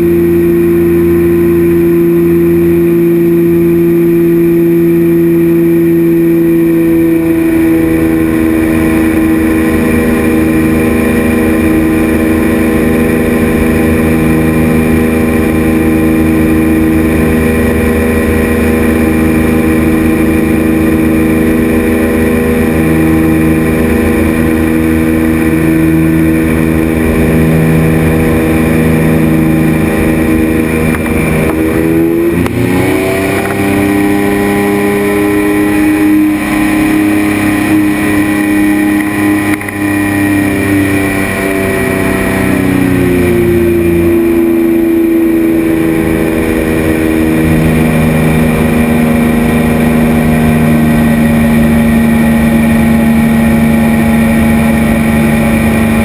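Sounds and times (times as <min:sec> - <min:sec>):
propeller engine droning: 0:00.0 - 0:56.0.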